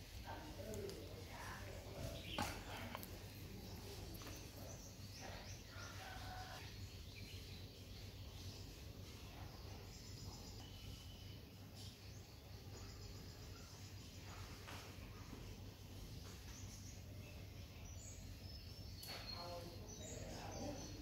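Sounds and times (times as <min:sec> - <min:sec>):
faint bird chirps: 0:01.4 - 0:21.0.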